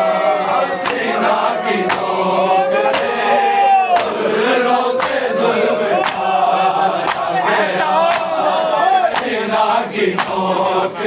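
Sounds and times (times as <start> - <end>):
men chanting in chorus: 0.0 - 11.0.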